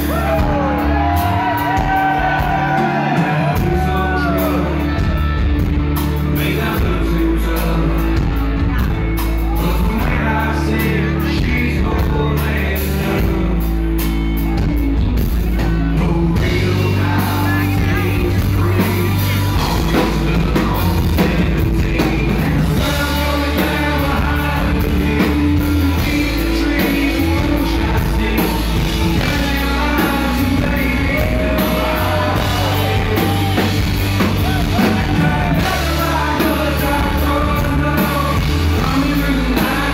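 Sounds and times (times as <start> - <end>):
country-rock band playing: 0.0 - 39.9
heavy steady bass line: 0.0 - 39.9
person singing amplified vocals: 6.2 - 14.1, 15.6 - 39.9.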